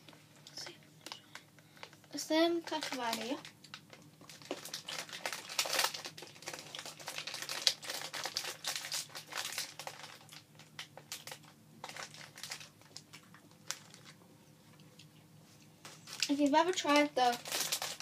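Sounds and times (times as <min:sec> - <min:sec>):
plastic packet crinkling: 0:00.0 - 0:15.1, 0:15.8 - 0:18.0.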